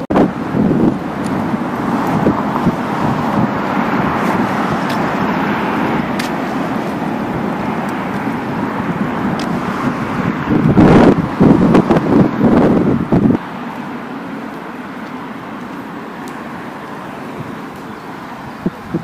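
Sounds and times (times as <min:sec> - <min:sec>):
cars passing on road: 0:00.0 - 0:19.0.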